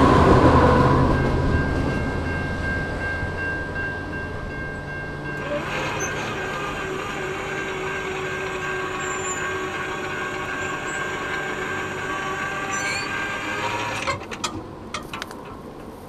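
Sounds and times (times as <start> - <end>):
train rumble with ringing steel: 0.0 - 16.0.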